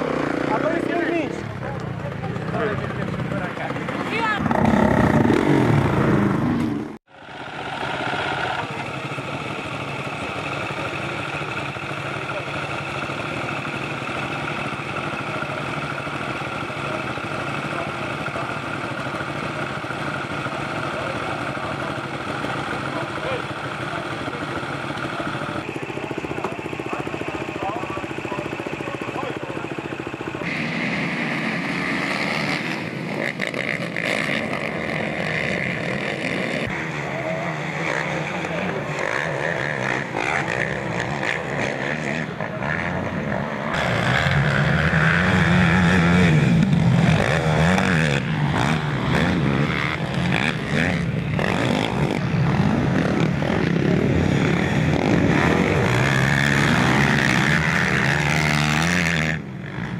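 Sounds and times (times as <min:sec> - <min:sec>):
quad engines revving: 0:00.0 - 0:59.9.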